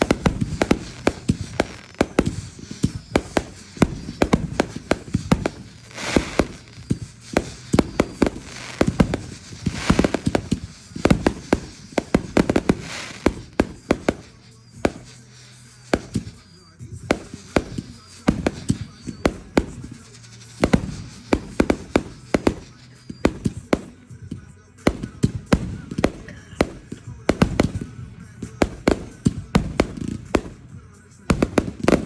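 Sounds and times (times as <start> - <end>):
fireworks bangs and crackles: 0.0 - 32.0
fireworks hiss: 0.0 - 32.0.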